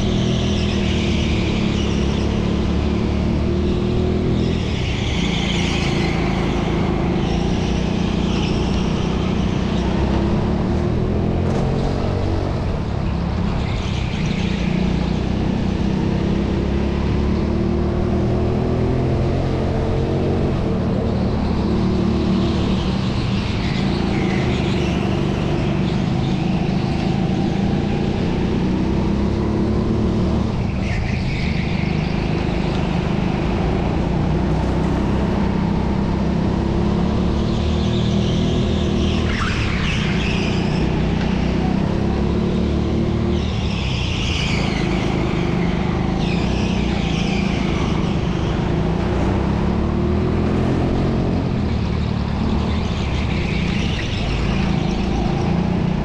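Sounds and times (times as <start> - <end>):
go-kart engine running hard: 0.0 - 56.0.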